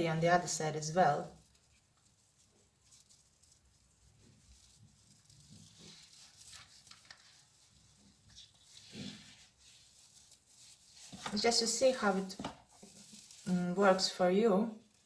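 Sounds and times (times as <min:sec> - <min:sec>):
yarn rustling through crochet: 0:00.0 - 0:15.0.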